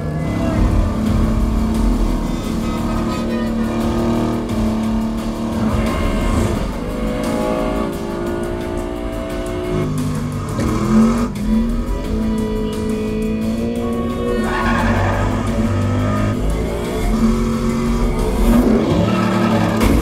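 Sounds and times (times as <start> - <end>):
background music: 0.0 - 20.0
car engines revving: 0.0 - 20.0.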